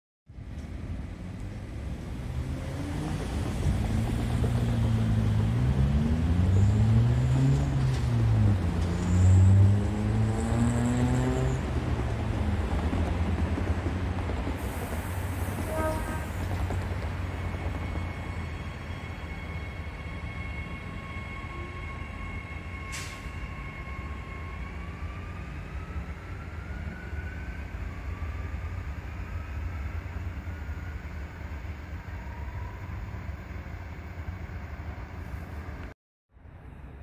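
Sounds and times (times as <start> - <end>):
train low rumble: 0.3 - 37.0.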